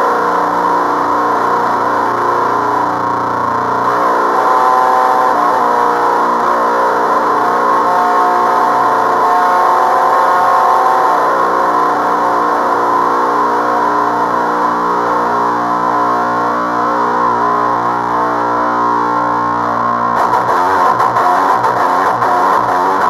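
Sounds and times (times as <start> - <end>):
distorted electric guitar chord: 0.0 - 23.0.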